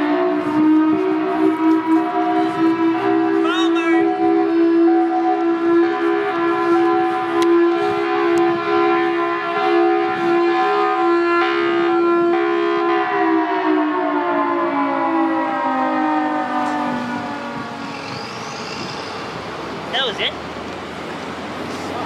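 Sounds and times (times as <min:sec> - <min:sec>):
rotating siren wailing: 0:00.0 - 0:19.7.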